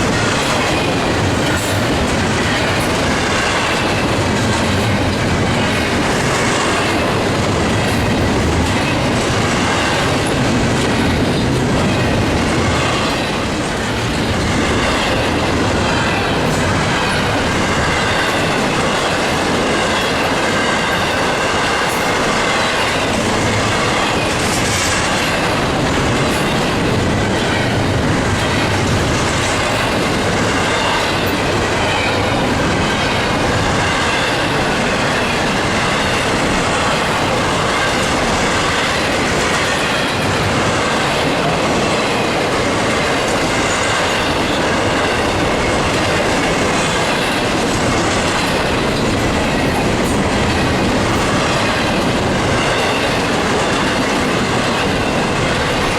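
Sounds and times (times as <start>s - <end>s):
clickety-clack over rail joints: 0.0s - 55.9s
train wheels rumbling on rails: 0.0s - 55.9s.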